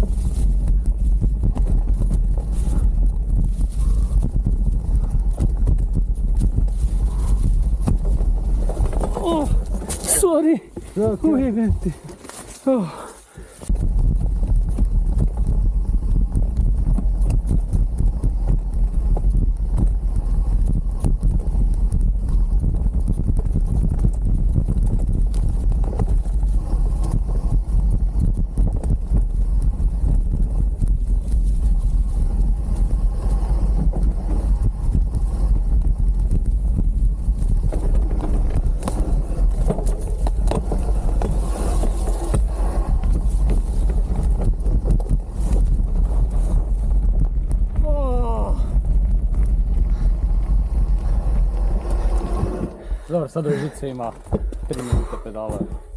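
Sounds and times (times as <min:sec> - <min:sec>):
wind buffeting microphone: 0:00.0 - 0:12.1, 0:13.4 - 0:55.9
low rumble: 0:00.0 - 0:12.3, 0:13.7 - 0:55.9
bike wheels clattering over bumps: 0:00.0 - 0:55.9.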